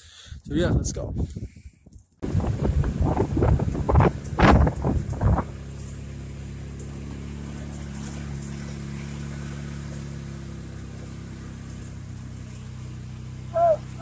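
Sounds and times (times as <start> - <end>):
utility vehicle engine running: 2.2 - 14.0.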